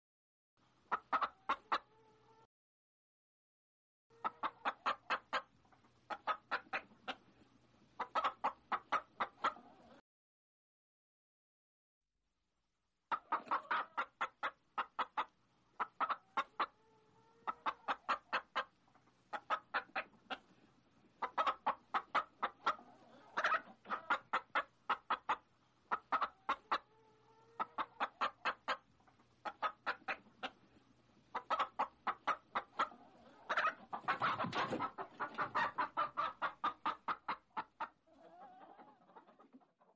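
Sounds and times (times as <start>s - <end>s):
hens clucking: 0.9s - 2.5s, 4.1s - 10.0s, 13.1s - 39.9s.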